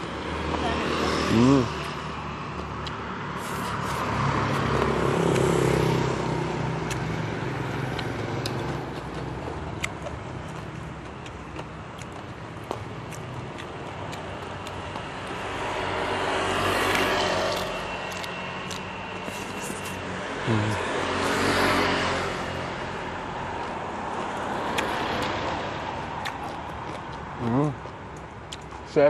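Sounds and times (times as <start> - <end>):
steady traffic hum: 0.0 - 29.0
vehicles passing on road: 0.0 - 29.0.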